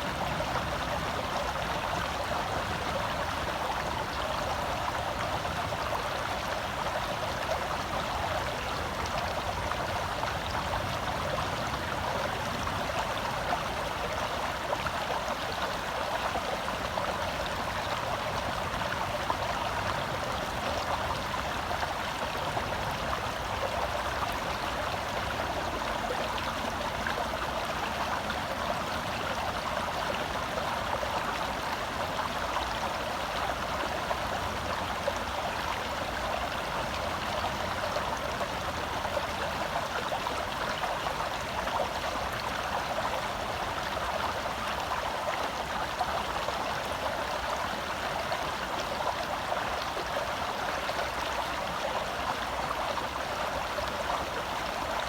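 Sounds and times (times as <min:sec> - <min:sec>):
stream burbling over rocks: 0:00.0 - 0:55.0.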